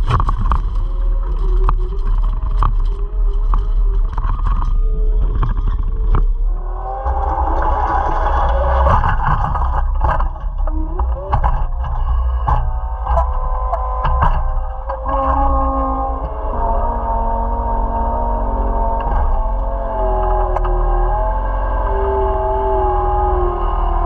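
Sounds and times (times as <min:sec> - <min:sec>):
high whine: 0:00.0 - 0:24.0.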